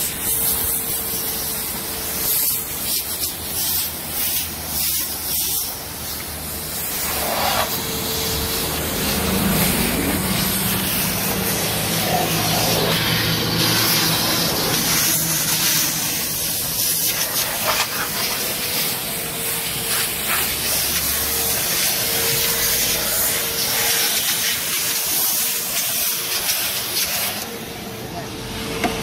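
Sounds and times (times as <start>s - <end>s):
vacuum hose sucking air: 0.0s - 27.6s.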